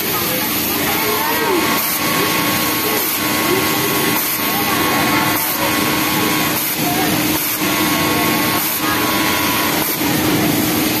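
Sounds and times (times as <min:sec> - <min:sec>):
people talking: 0:00.0 - 0:11.0
sewing machines whirring: 0:00.0 - 0:11.0.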